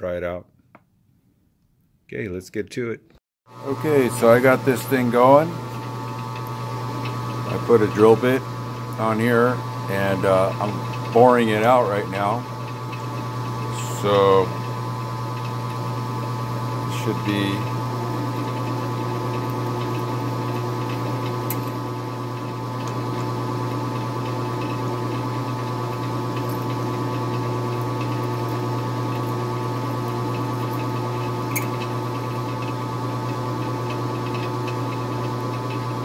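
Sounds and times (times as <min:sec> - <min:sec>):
metal lathe humming and whining: 0:03.6 - 0:36.0.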